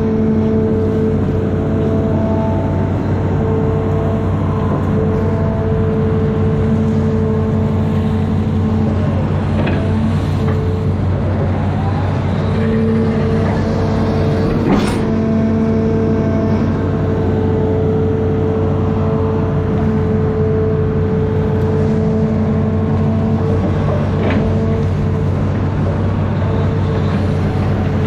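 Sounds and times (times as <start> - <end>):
diesel engine running: 0.0 - 28.0
steady whine: 0.0 - 28.0.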